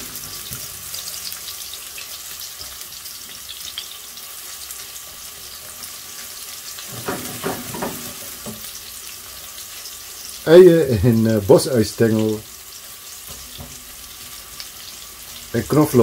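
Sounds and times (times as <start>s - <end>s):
spatula stirring in pan: 0.0s - 10.4s, 12.5s - 15.6s
garlic sizzling in oil: 0.0s - 16.0s.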